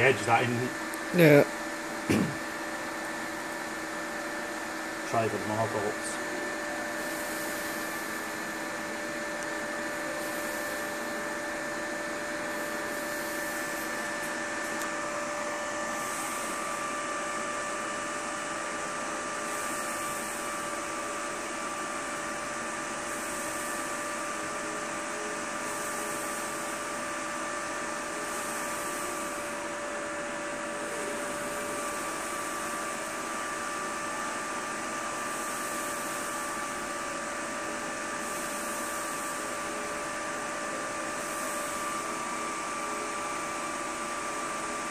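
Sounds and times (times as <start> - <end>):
liquid nitrogen boiling hiss: 0.0 - 29.7, 30.9 - 44.6
cooling fans whining: 0.0 - 44.9.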